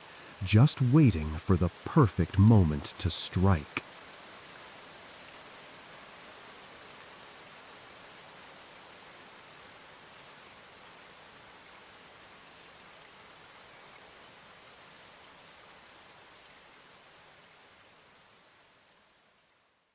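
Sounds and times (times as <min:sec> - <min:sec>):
rain pattering: 0:00.0 - 0:19.3.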